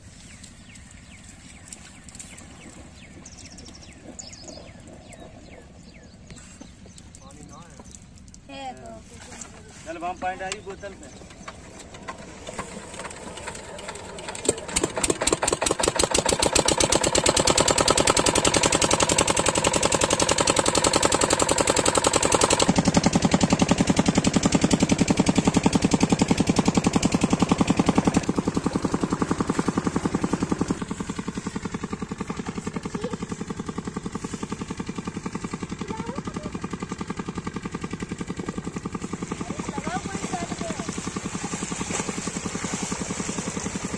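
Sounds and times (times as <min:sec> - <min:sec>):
diesel engine starting and running: 0:00.0 - 0:08.7, 0:09.7 - 0:43.9.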